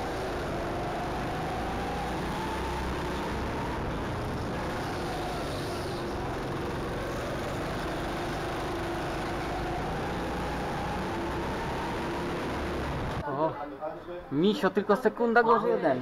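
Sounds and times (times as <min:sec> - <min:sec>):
go-kart motor: 0:00.0 - 0:13.2
rush of noise: 0:00.0 - 0:13.2.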